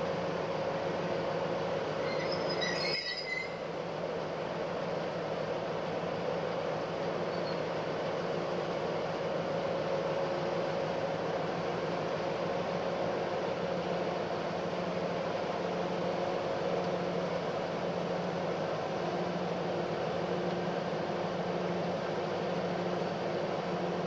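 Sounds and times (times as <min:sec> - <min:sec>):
diesel locomotive engine droning: 0:00.0 - 0:24.0.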